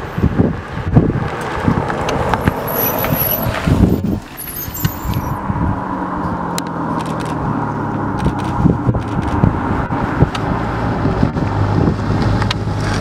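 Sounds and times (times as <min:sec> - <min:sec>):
car engine driving up: 0:00.0 - 0:13.0
engine running at steady pitch: 0:00.0 - 0:13.0
wind buffeting microphone: 0:00.0 - 0:13.0.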